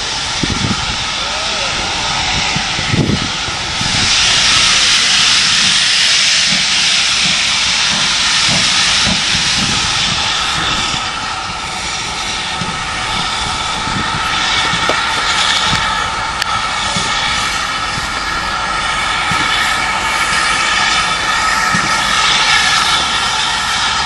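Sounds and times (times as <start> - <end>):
steam locomotive hissing steam: 0.0 - 24.0.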